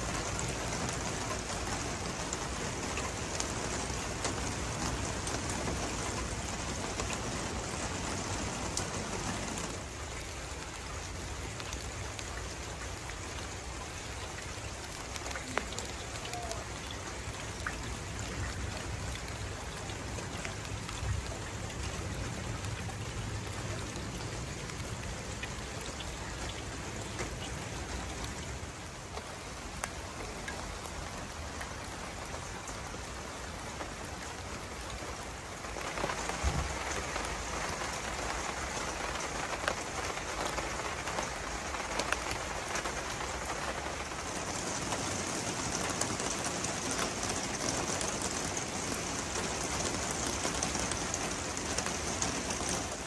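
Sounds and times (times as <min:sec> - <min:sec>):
rain falling: 0:00.0 - 0:53.0
raindrops ticking on surfaces: 0:00.0 - 0:53.0.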